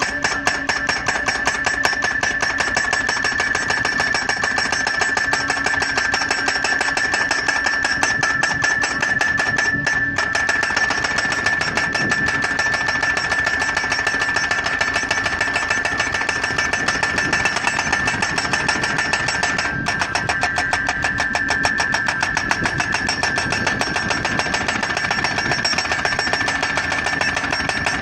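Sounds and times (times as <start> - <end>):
high machine whine: 0.0 - 28.0
pile driver hammer striking post: 0.0 - 28.0.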